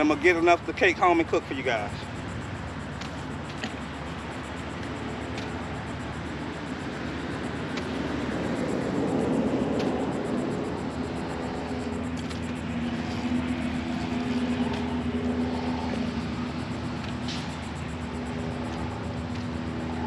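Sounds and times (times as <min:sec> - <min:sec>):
distant engine drone: 0:00.0 - 0:20.0.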